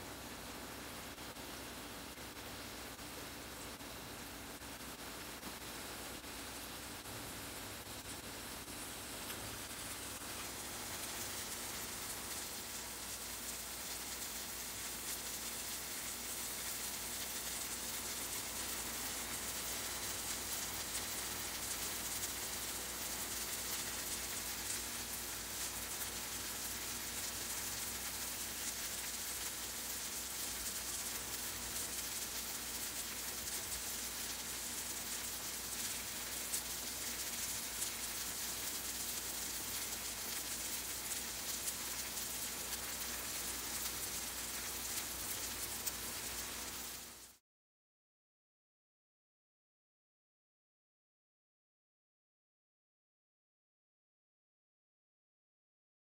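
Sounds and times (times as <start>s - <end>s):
omelette sizzling in frying pan: 0.2s - 47.4s.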